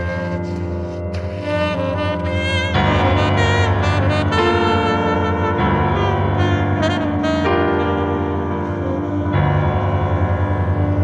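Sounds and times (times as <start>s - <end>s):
saxophone held notes: 0.0s - 9.5s.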